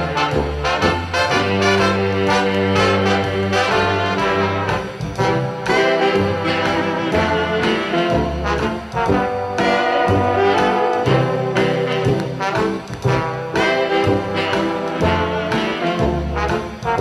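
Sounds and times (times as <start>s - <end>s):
swing dance band music: 0.0s - 17.0s
trombones and trumpets: 0.0s - 17.0s.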